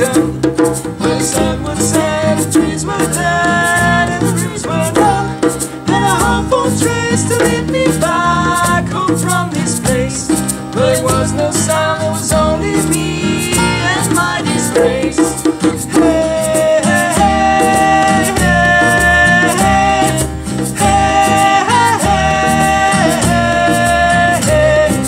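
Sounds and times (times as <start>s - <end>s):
electric bass: 0.0s - 25.0s
group of voices singing: 0.0s - 25.0s
strummed acoustic guitar: 0.0s - 25.0s
ticking beat: 0.0s - 25.0s.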